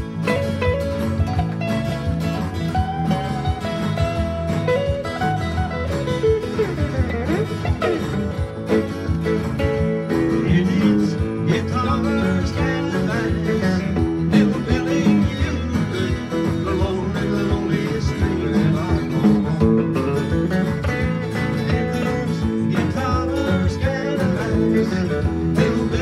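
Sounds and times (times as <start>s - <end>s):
country guitar instrumental: 0.0s - 26.0s.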